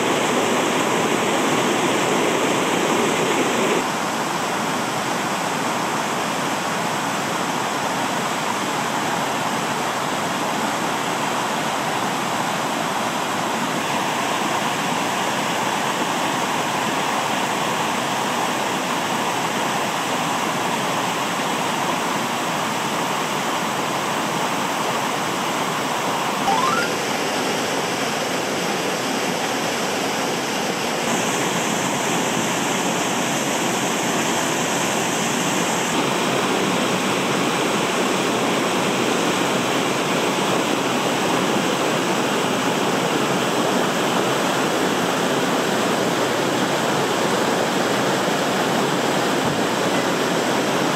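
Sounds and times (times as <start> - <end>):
mountain stream rushing over rocks: 0.0 - 50.9.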